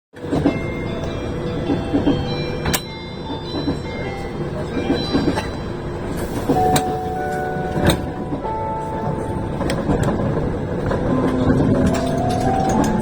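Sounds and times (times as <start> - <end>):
train running rumble: 0.2 - 13.0
train announcement chime: 0.3 - 13.0.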